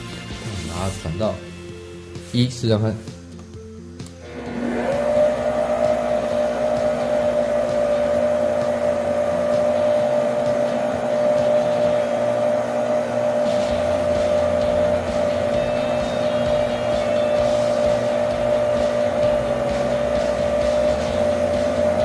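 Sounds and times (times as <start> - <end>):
stand mixer motor whine: 4.2 - 22.0.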